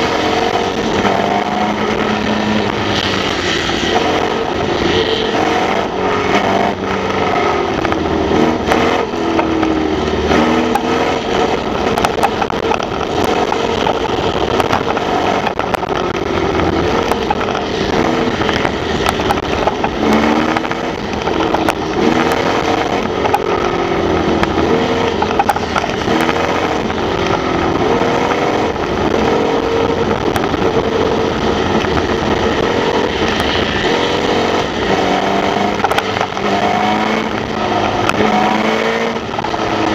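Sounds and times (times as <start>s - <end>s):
race car engine revving: 0.0s - 39.9s
rush of noise: 0.0s - 39.9s.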